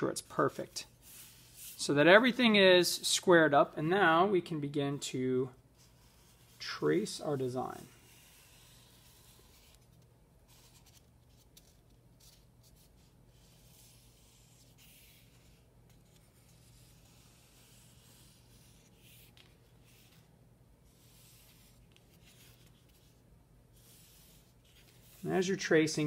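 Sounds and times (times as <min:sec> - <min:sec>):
marker scratching on styrofoam: 0:00.4 - 0:01.8, 0:05.8 - 0:25.5.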